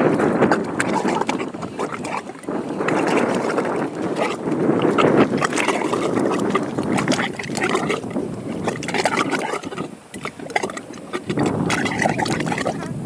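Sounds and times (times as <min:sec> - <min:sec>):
mud bubbling and popping: 0:00.0 - 0:13.0.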